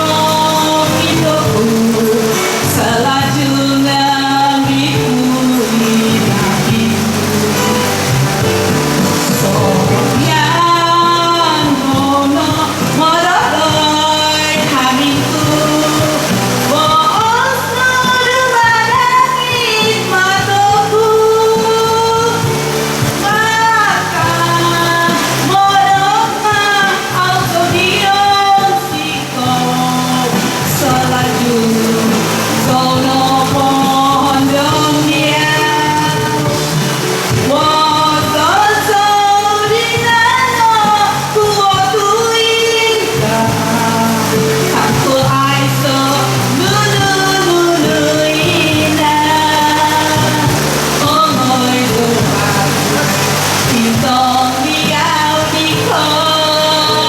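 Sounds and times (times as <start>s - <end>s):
backing music: 0.0s - 57.0s
woman singing: 0.0s - 57.0s.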